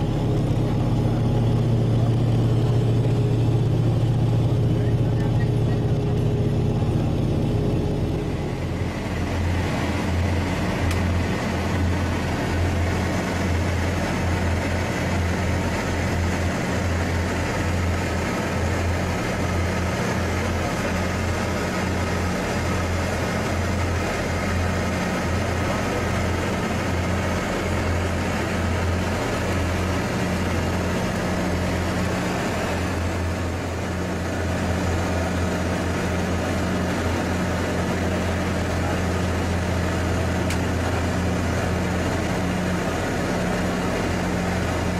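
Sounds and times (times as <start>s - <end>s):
propeller engines droning in cabin: 0.0s - 44.9s.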